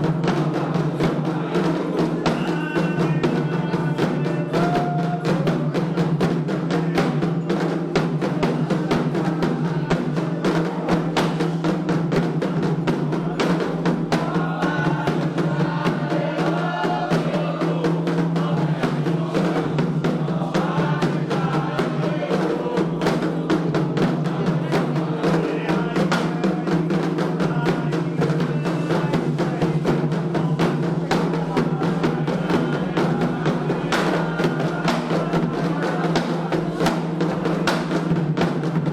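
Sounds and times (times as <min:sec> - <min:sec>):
hand drums beating: 0:00.0 - 0:38.9
voices singing: 0:00.0 - 0:38.9.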